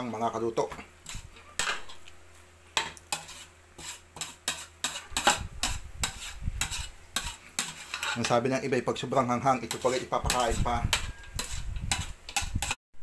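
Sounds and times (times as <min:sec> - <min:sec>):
metal spoon scraping pot: 0:01.0 - 0:02.1, 0:02.8 - 0:12.8.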